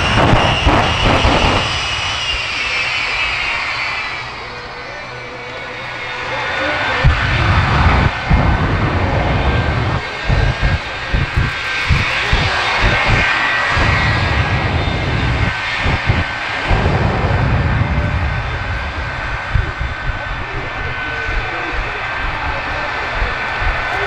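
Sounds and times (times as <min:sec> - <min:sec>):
low rumbling pulses: 0:00.0 - 0:02.8, 0:06.9 - 0:24.0
jet engines roaring: 0:00.0 - 0:24.0.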